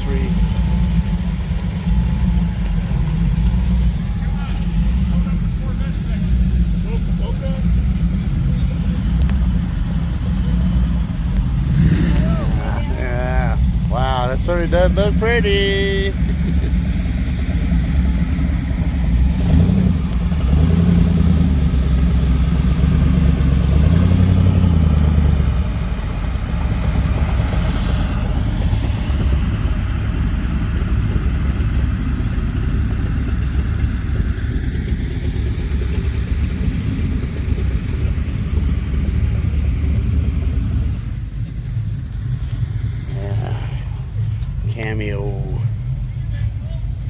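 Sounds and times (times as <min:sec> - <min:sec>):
car engine rumbling: 0:00.0 - 0:47.0.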